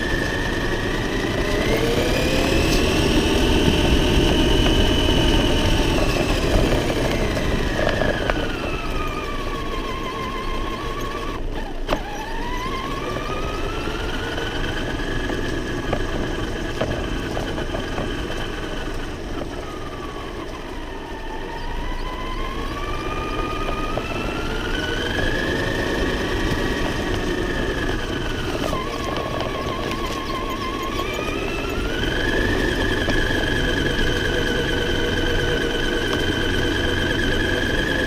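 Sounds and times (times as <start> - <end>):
toy truck motor whining: 0.0 - 38.0
tyres rumbling on ground: 0.0 - 38.0.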